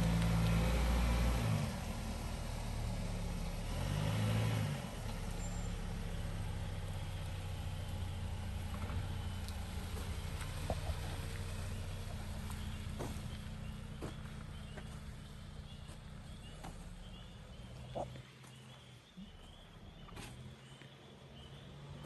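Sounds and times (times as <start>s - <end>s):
car engine driving off: 0.0s - 20.8s.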